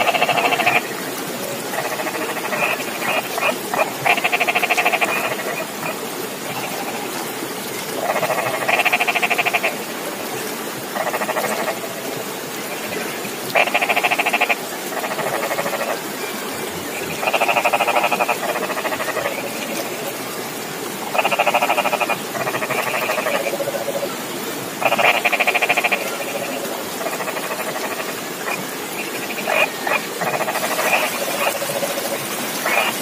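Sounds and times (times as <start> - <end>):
background hiss: 0.0 - 33.0
frogs calling: 0.0 - 33.0.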